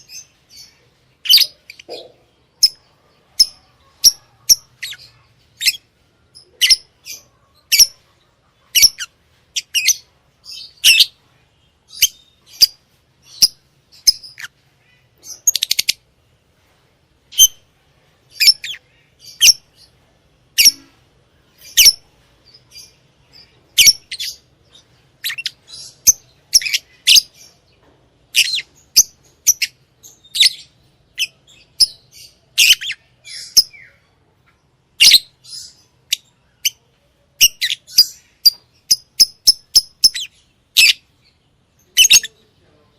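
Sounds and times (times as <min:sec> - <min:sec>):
lovebirds chirping: 0:00.0 - 0:42.9.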